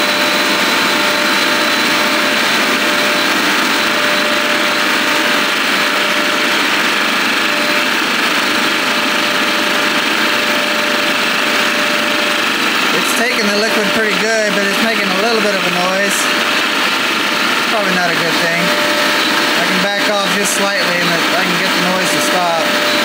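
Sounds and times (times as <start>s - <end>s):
machine shudder: 0.0s - 23.0s
refrigerant recovery machine running: 0.0s - 23.0s.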